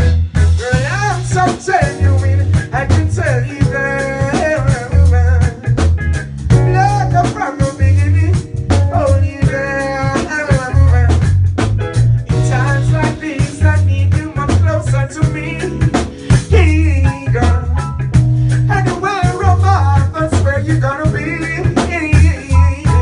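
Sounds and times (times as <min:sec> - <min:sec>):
live reggae band playing: 0:00.0 - 0:23.0
prominent bass line: 0:00.0 - 0:23.0
man singing into microphone: 0:00.6 - 0:05.8, 0:06.5 - 0:11.3, 0:12.3 - 0:18.0, 0:18.6 - 0:23.0.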